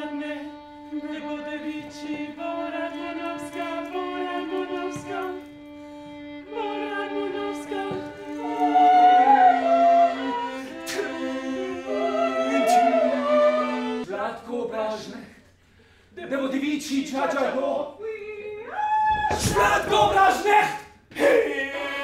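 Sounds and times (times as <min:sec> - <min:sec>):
opera singing voices: 0:00.0 - 0:05.6, 0:06.3 - 0:14.1, 0:17.4 - 0:22.0.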